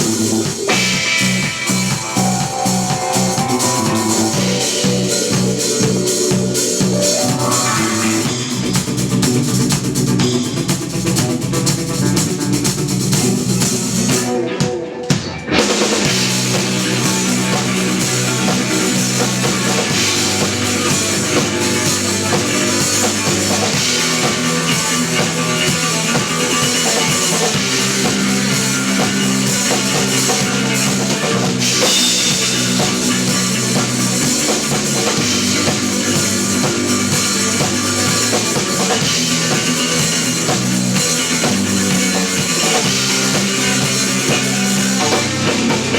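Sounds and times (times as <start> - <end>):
electric bass: 0.0 - 14.5, 15.5 - 45.9
drum kit: 0.0 - 45.9
electric guitar: 0.0 - 45.9.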